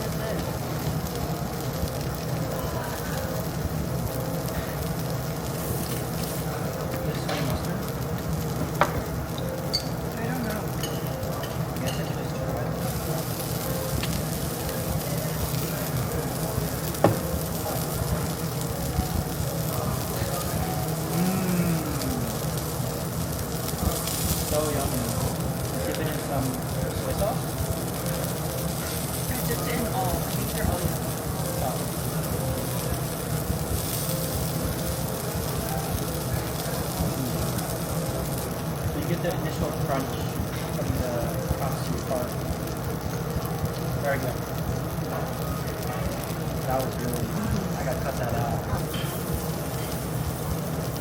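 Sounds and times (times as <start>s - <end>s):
beef sizzling on grill: 0.0s - 51.0s
restaurant background noise: 0.0s - 51.0s.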